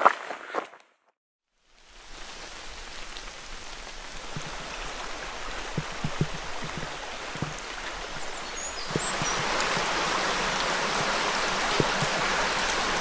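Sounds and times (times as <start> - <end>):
steady rain falling: 1.5 - 13.0.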